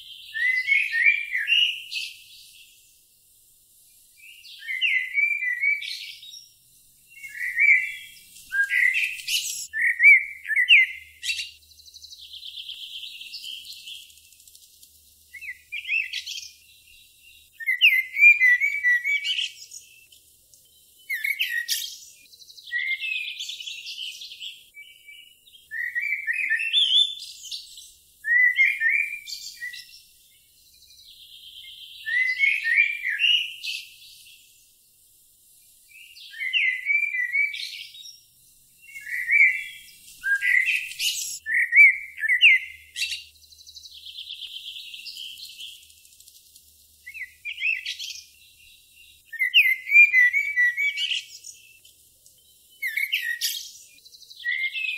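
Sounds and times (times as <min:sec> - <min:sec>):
songbird warbling: 0:00.0 - 0:02.8, 0:04.2 - 0:06.5, 0:07.1 - 0:20.2, 0:20.9 - 0:34.4, 0:35.9 - 0:38.2, 0:38.8 - 0:51.9, 0:52.6 - 0:54.9.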